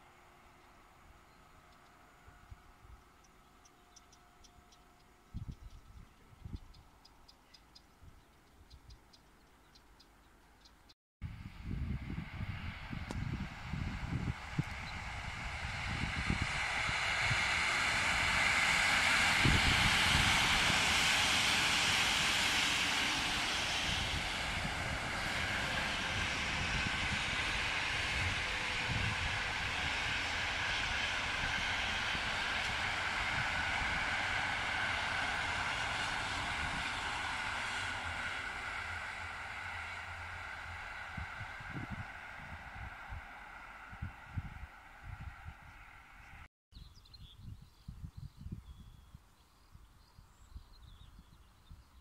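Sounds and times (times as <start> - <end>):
train passing: 0.0 - 46.5
wheels rushing on rails: 0.0 - 46.5.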